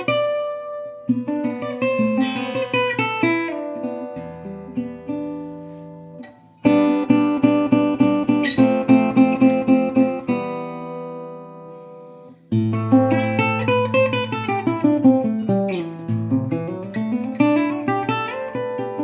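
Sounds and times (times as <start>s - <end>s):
resonator guitar blues playing: 0.0s - 19.0s.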